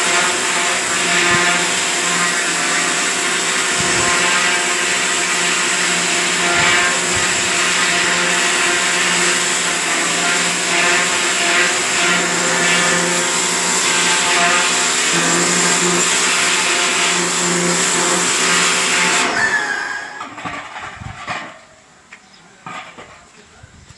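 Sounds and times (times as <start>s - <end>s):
small electric motor running: 0.0s - 20.2s.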